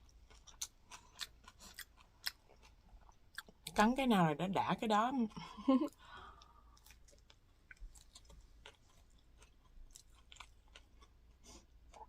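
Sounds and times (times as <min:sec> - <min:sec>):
chewing crunchy rice cake: 0:00.0 - 0:03.8, 0:06.0 - 0:12.0.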